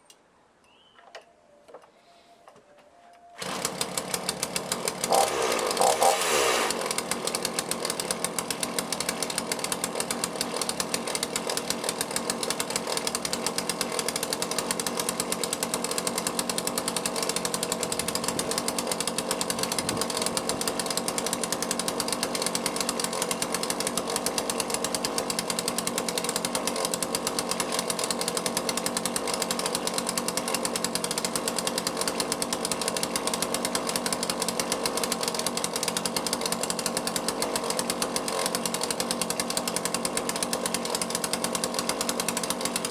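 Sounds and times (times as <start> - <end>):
chainsaw engine running: 3.4 - 42.9.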